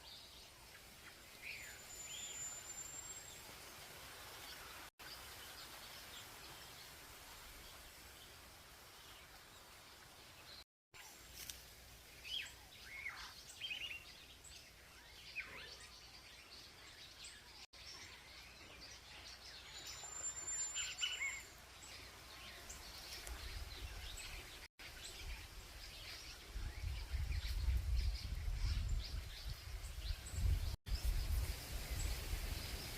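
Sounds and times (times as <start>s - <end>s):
birds chirping: 0.0s - 11.4s, 12.0s - 32.9s.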